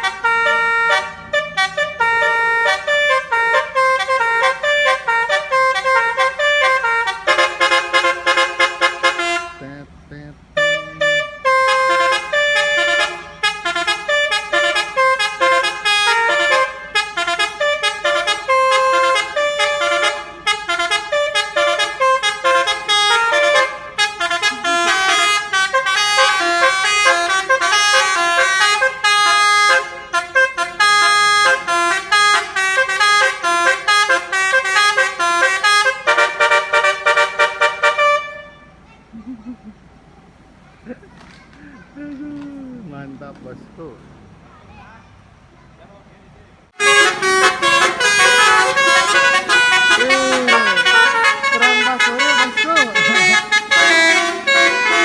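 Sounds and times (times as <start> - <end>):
bus horn playing melody: 0.0 - 38.8, 46.7 - 55.0.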